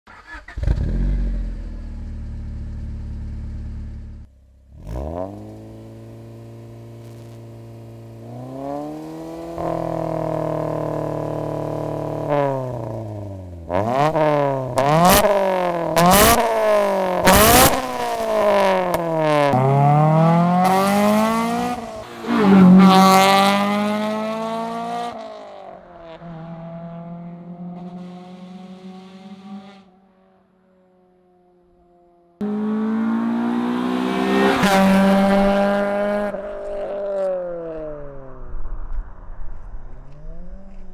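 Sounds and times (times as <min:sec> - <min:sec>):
car engine revving: 0:00.2 - 0:30.4, 0:32.4 - 0:38.5.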